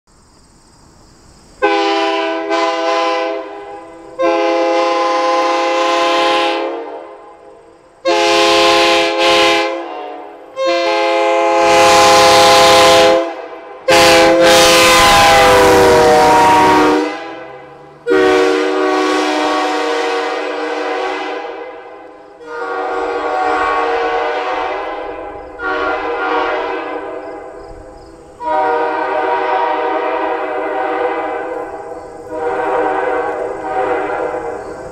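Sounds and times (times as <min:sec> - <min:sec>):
train horn blasts: 0:01.6 - 0:34.9.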